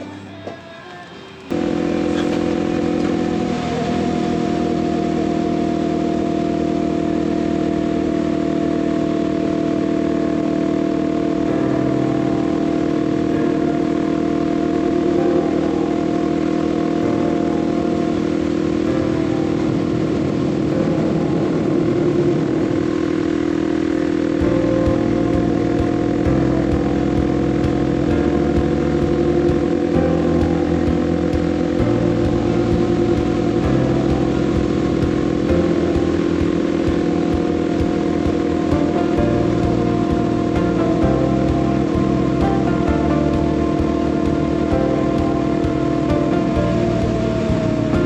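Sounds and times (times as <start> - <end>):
motorcycle engine cruising: 0.0 - 48.0
wind and road noise: 1.5 - 48.0.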